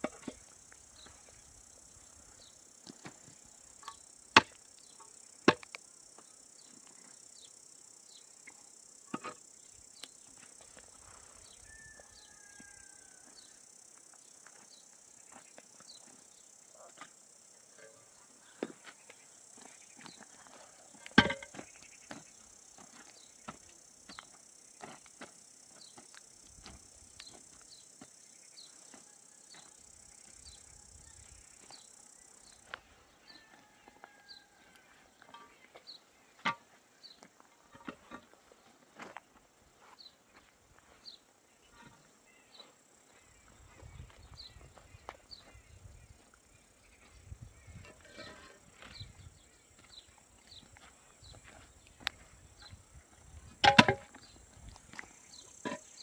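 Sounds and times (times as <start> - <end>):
insects buzzing: 0.0 - 37.8, 40.0 - 56.0.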